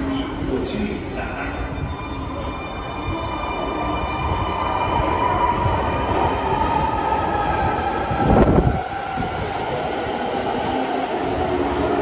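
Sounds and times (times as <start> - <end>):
subway train whine: 0.0 - 12.0.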